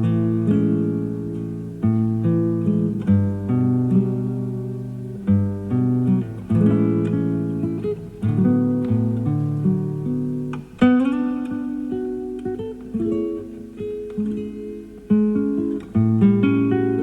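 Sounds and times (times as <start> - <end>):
classical guitar playing: 0.0 - 17.0.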